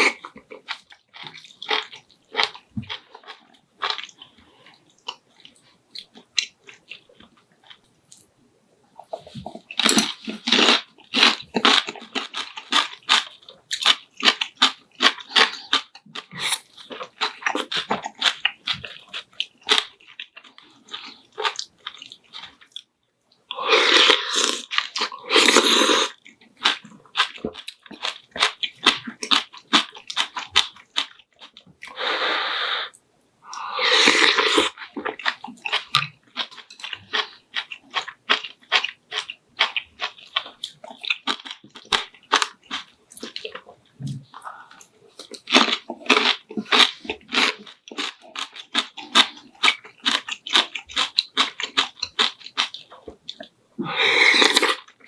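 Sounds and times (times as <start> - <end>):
chewing and crunching food: 0.0 - 32.2, 32.9 - 55.0.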